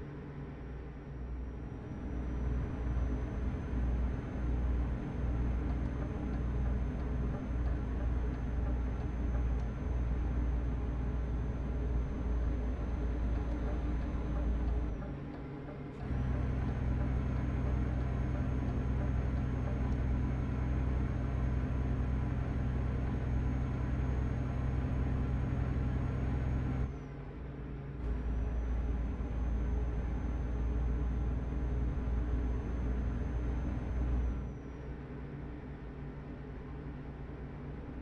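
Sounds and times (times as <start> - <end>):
faint high whine: 0.0 - 38.0
truck engine droning: 0.6 - 35.1.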